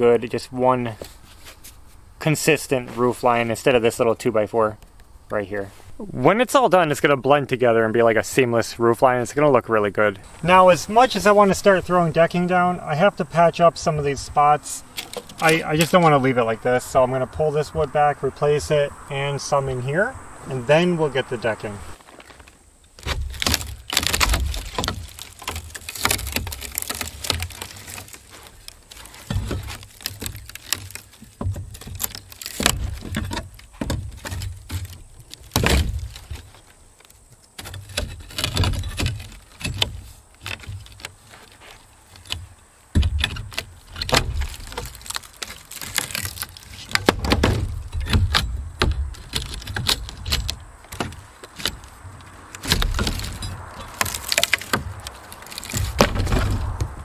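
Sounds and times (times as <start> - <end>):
wood splitting and creaking: 9.0 - 57.0.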